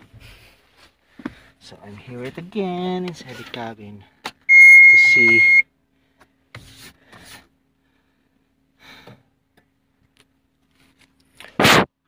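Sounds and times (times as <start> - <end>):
faint steady hum: 0.0 - 11.6.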